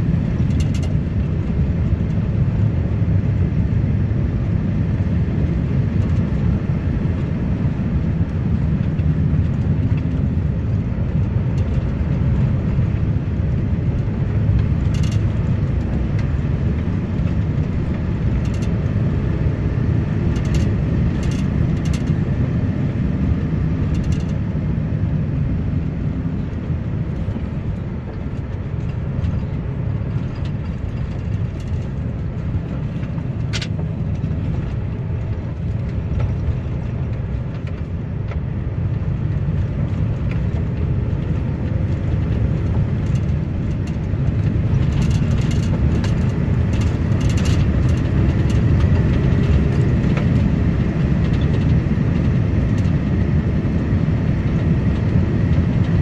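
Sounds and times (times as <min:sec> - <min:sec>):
diesel engine rumble: 0:00.0 - 0:56.0.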